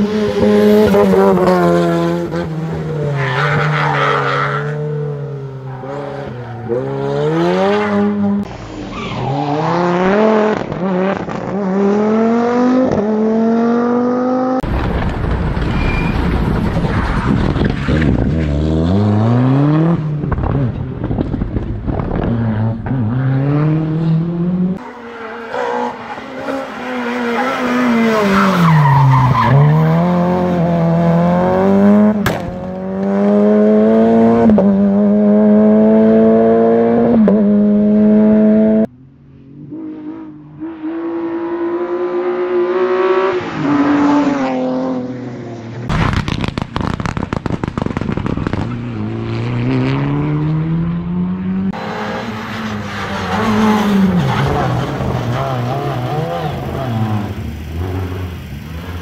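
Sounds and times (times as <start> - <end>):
rally car engines revving: 0.0 - 15.1, 15.9 - 45.9, 47.9 - 59.0.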